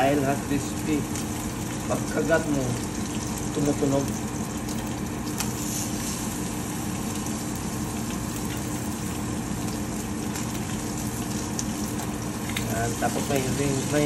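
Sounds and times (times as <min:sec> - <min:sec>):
meat sizzling in a frying pan: 0:00.0 - 0:14.0
steady low hum: 0:00.0 - 0:14.0.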